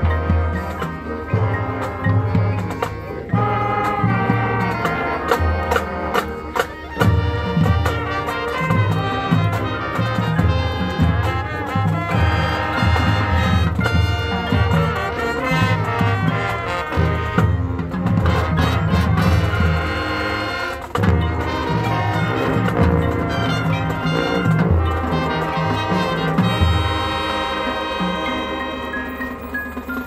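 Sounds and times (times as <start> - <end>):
marching band brass: 0.0 - 30.0.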